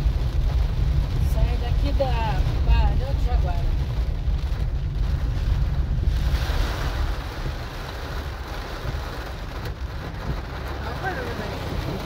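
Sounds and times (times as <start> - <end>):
rain drumming on car roof: 0.0 - 12.0
road and engine rumble: 0.0 - 12.0.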